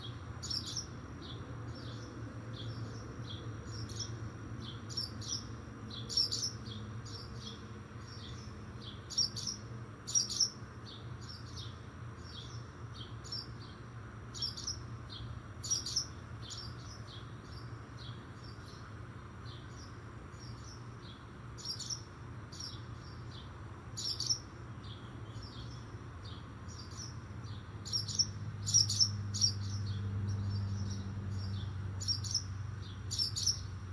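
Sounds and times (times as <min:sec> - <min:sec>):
nestling birds chirping: 0:00.0 - 0:33.9.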